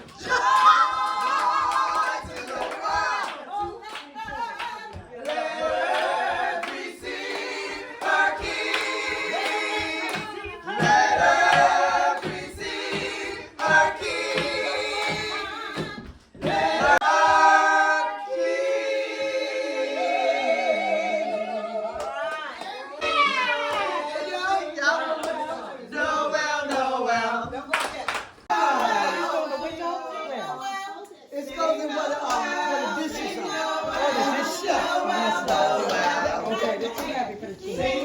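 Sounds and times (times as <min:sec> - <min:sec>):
choir singing a cappella: 0:00.0 - 0:27.7, 0:28.4 - 0:38.0.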